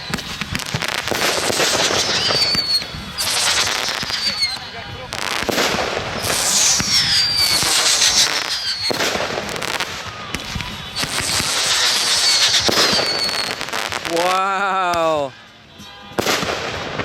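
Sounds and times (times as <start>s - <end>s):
fireworks crackling: 0.0s - 15.4s, 16.2s - 17.0s
fireworks whistling: 0.0s - 17.0s.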